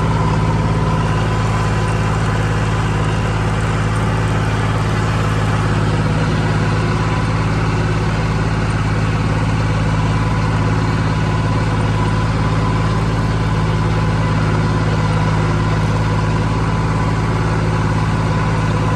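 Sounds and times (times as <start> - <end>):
heavy engine running steadily: 0.0 - 18.9.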